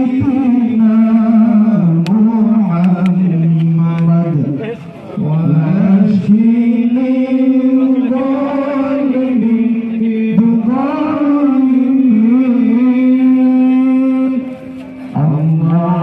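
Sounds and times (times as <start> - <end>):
person chanting held notes: 0.0 - 16.0.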